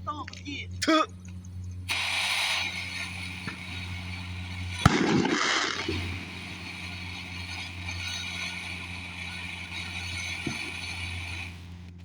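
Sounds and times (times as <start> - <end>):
firework hissing: 0.0 - 12.0
steady low hum: 0.0 - 12.0
firework bang: 1.9 - 11.6.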